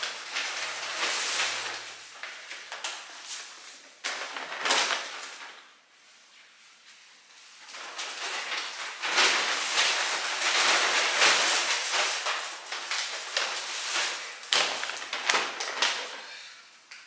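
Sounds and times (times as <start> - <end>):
paper bags rustling: 0.0 - 6.0, 7.2 - 16.3.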